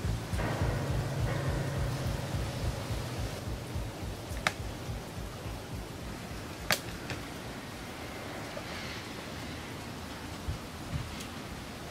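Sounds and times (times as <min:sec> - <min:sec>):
steady rain: 0:00.0 - 0:11.9.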